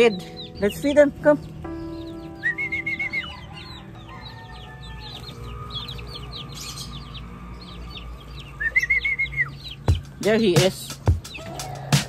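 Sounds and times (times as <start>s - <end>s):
chickens clucking: 0.0s - 12.0s
small birds chirping: 0.0s - 12.0s.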